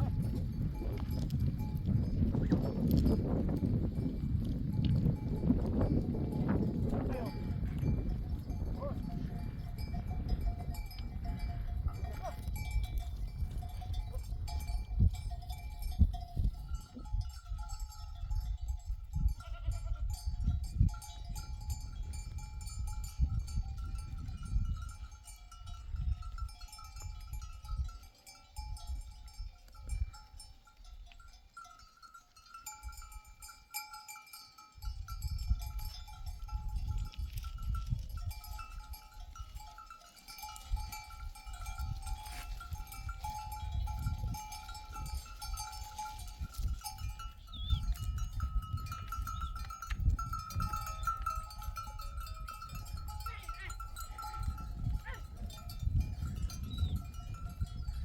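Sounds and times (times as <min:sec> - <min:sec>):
sheep bells clinking: 0:00.0 - 0:58.0.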